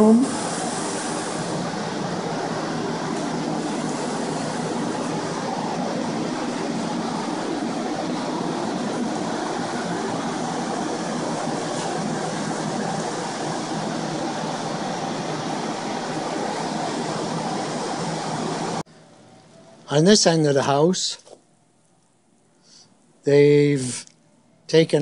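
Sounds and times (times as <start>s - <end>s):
air movers droning: 0.0s - 25.0s.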